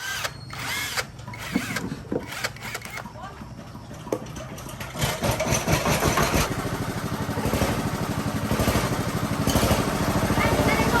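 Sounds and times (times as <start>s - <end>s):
chainsaw engine starting and idling: 0.0s - 11.0s.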